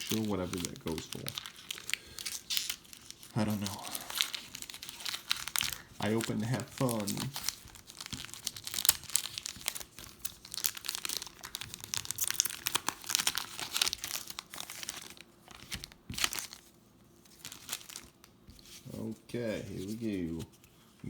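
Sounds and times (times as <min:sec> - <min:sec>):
foil wrapper crinkling and tearing: 0:00.0 - 0:18.9.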